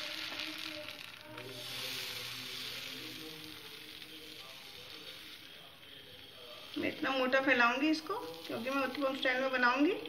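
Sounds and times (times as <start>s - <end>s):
batter sizzling on hot griddle: 0.0s - 10.0s.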